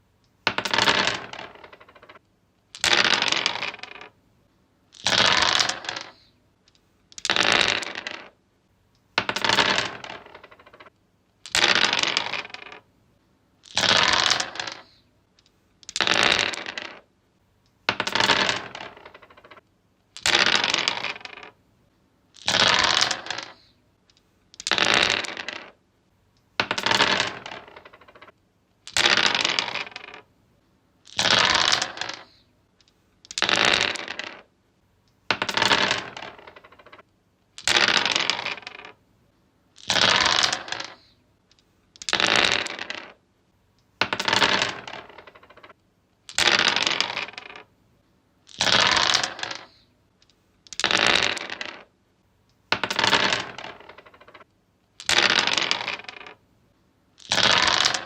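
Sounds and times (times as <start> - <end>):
dice rolling on wood: 0.4 - 4.2, 4.9 - 8.4, 9.0 - 12.9, 13.6 - 17.1, 17.7 - 21.6, 22.3 - 25.8, 26.4 - 30.3, 31.0 - 34.5, 35.1 - 39.0, 39.8 - 43.2, 43.8 - 47.7, 48.4 - 56.4, 57.2 - 58.0.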